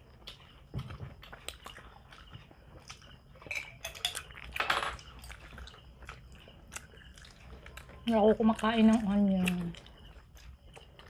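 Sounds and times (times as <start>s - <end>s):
food crunch: 0.0s - 11.0s.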